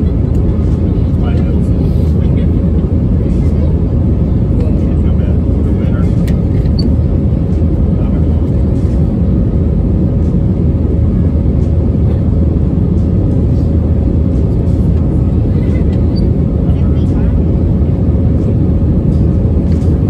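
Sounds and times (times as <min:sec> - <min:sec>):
jet engines and rushing air roar: 0:00.0 - 0:20.0.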